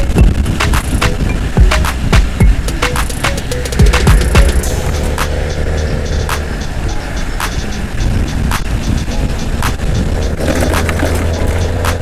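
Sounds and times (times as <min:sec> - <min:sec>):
sharp ticks: 0:00.0 - 0:12.0
tyre noise on wet road: 0:00.0 - 0:12.0
wind rumble: 0:00.0 - 0:12.0.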